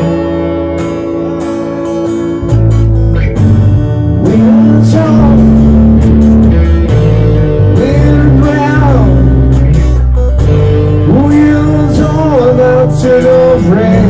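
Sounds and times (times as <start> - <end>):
guitar: 0.0 - 14.0
steady bass line: 0.0 - 14.0.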